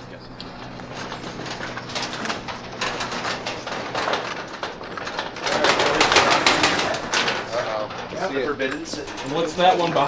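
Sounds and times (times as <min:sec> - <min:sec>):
footsteps of people walking: 0:00.0 - 0:10.0.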